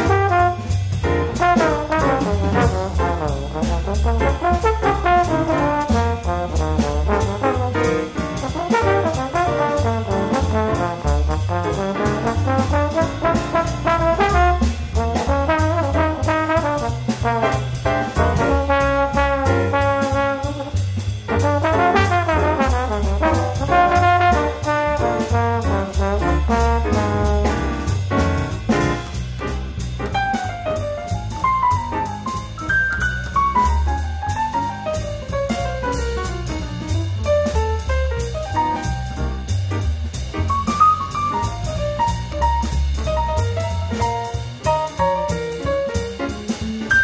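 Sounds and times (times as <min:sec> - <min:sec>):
instrumental background music: 0:00.0 - 0:47.0.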